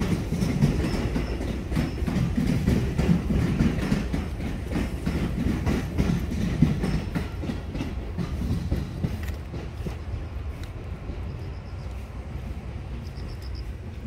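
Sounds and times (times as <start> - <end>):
train wheels clattering: 0.0 - 14.0.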